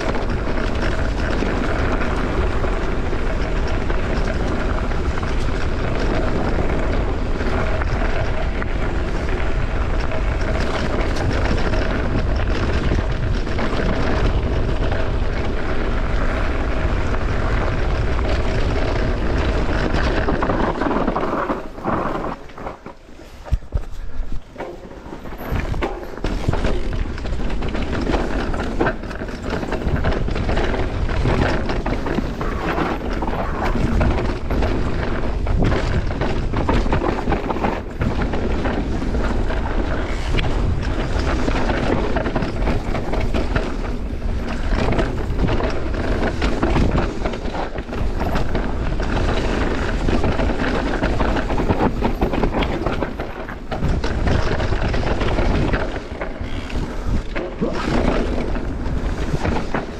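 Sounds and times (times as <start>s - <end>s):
bike rattling clicks and knocks: 0.0s - 59.9s
tyres grinding over rock: 0.0s - 59.9s
wind noise on microphone: 0.0s - 59.9s.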